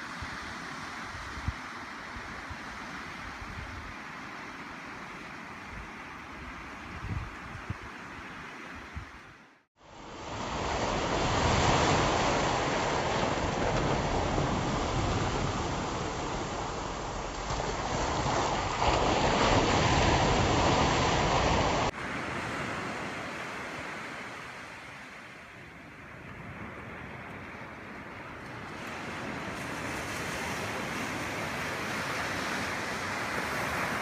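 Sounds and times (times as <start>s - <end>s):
sea waves washing ashore: 0.0s - 34.0s.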